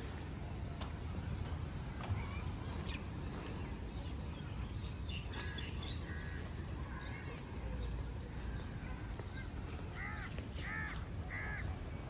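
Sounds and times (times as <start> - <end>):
low outdoor background noise: 0.0 - 12.0
birds calling: 2.0 - 11.8.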